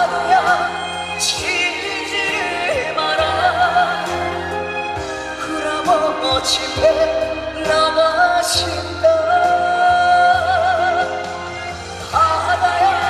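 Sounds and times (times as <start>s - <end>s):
backing band: 0.0s - 13.0s.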